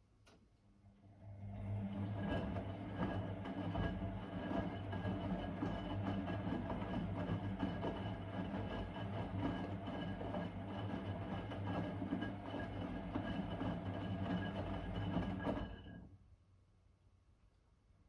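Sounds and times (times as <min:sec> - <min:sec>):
washing machine running: 0:01.1 - 0:16.1.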